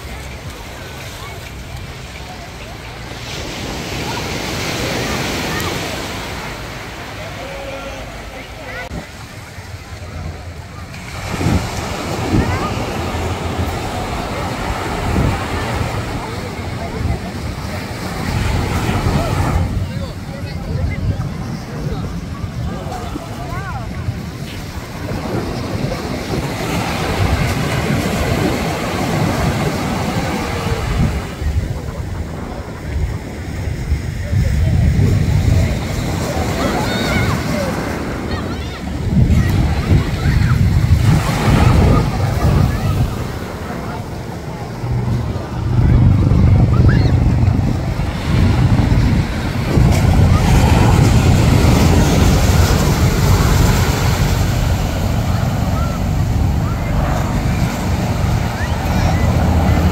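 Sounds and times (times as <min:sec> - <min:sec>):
ocean surf washing ashore: 0:00.0 - 0:59.9
wind buffeting microphone: 0:08.7 - 0:59.9.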